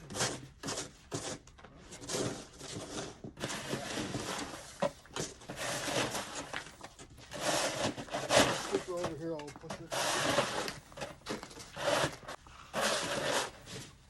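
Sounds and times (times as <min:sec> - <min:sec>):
shovel scraping snow: 0:00.0 - 0:14.0.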